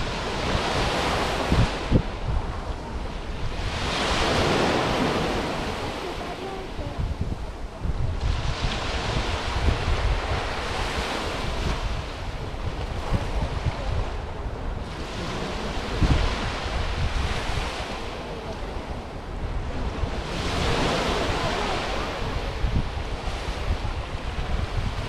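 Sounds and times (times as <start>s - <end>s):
waves washing onto sand: 0.0s - 25.0s
wind buffeting microphone: 0.0s - 25.0s.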